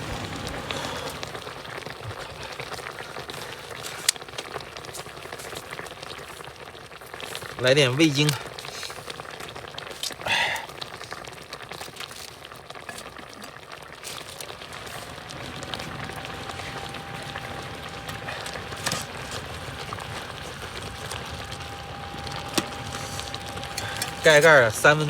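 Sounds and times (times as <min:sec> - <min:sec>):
soup boiling and bubbling: 0:00.0 - 0:25.0.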